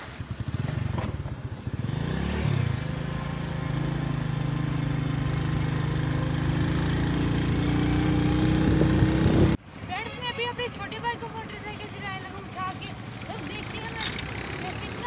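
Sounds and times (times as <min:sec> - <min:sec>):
motorcycle engine: 0:00.0 - 0:15.0
wind and road noise: 0:00.0 - 0:15.0.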